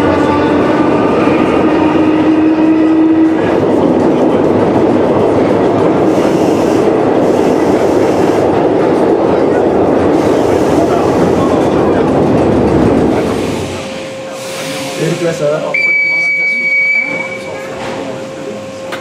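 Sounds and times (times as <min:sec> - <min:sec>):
metro car rumbling on rails: 0:00.0 - 0:19.0.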